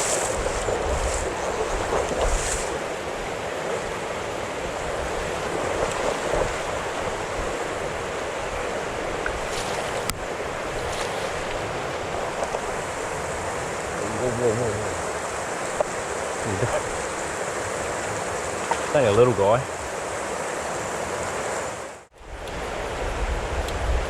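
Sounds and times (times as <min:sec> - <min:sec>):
river water flowing over stones: 0:00.0 - 0:23.3.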